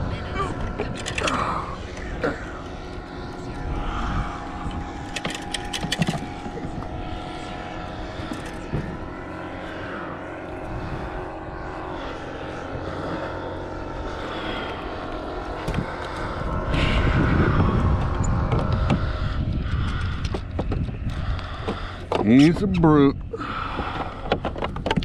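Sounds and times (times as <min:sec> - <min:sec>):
low rumble: 0:00.0 - 0:24.5
distant engine drone: 0:00.0 - 0:25.0.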